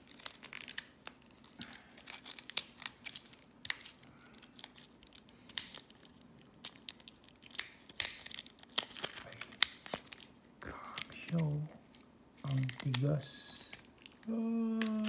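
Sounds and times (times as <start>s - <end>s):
plastic blister pack crinkling: 0.0s - 15.0s.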